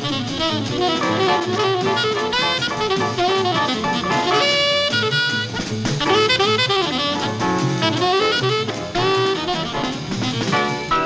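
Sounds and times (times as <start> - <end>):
jazz music with saxophone and brass: 0.0 - 11.0.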